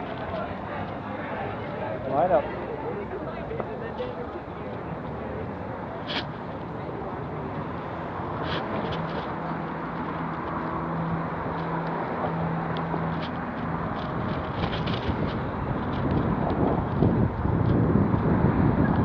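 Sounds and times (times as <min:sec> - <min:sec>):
outdoor noise wash: 0:00.0 - 0:19.0
motor vehicle humming: 0:02.7 - 0:19.0.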